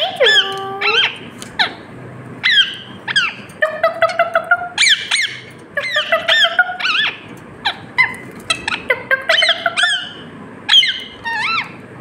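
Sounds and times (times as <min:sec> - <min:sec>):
parakeet calling: 0:00.0 - 0:11.8.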